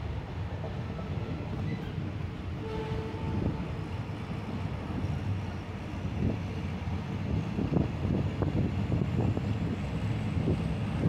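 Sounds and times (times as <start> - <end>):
train wheels rumbling on track: 0.0 - 11.0
wind noise: 1.2 - 11.0.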